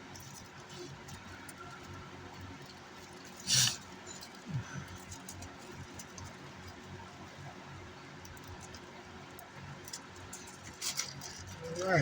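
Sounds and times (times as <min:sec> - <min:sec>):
steady low hum: 0:00.0 - 0:12.0
small clicks and handling noises: 0:00.1 - 0:06.9, 0:08.2 - 0:11.6.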